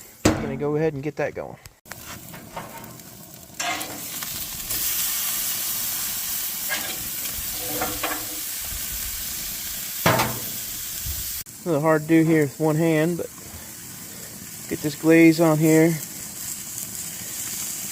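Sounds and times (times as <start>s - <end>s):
steaks sizzling on a grill: 1.9s - 17.9s.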